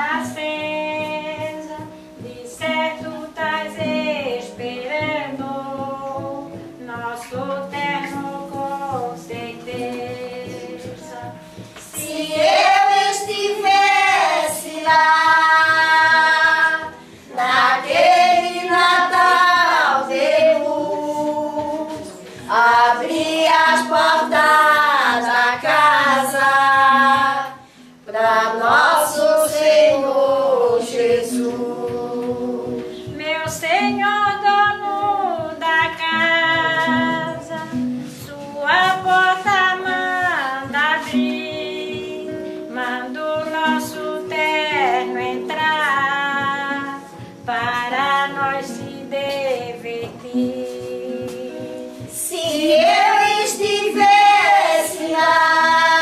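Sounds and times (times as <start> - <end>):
women singing together: 0.0 - 56.0.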